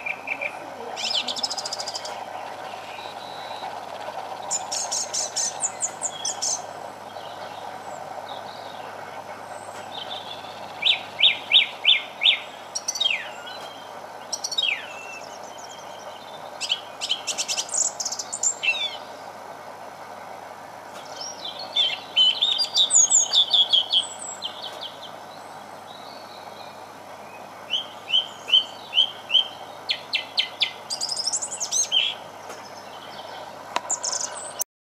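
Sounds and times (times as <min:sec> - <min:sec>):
steady background noise: 0:00.0 - 0:34.6.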